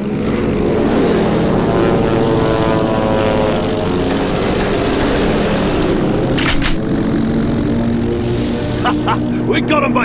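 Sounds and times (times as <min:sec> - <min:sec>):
propeller plane engines droning: 0:00.0 - 0:10.0.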